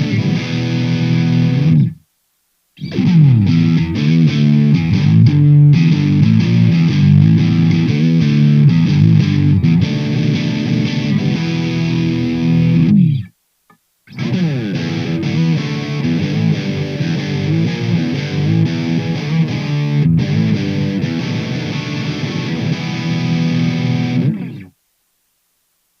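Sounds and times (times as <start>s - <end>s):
overdriven electric guitar: 0.0s - 2.0s, 2.8s - 13.3s, 14.1s - 24.8s.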